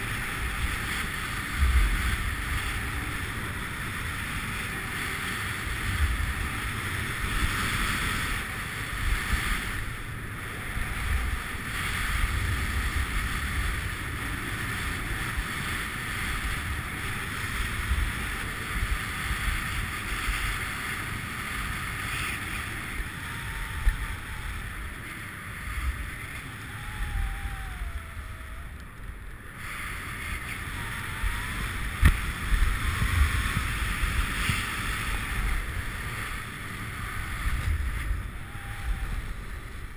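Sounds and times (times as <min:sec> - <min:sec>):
skis scraping on snow: 0:00.0 - 0:27.1, 0:29.4 - 0:38.4
wind on microphone: 0:00.0 - 0:39.9.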